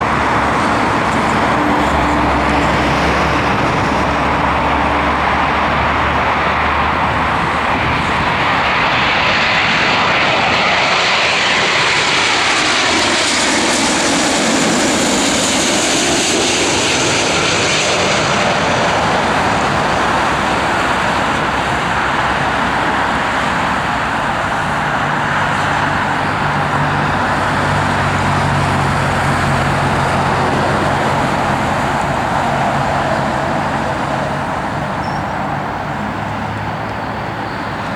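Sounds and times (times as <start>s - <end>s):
jet airliner passing: 0.0s - 37.9s.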